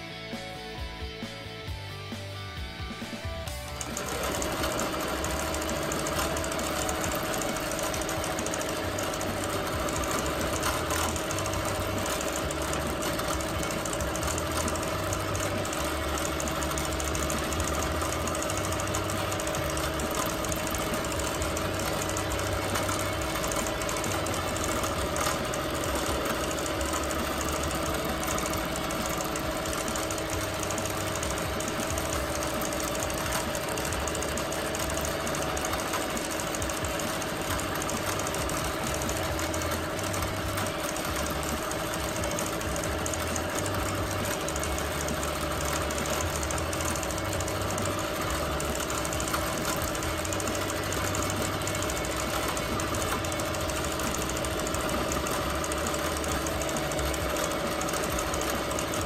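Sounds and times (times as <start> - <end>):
quilting machine motor hum: 1.7 - 59.0
fast needle stitching: 3.1 - 59.0.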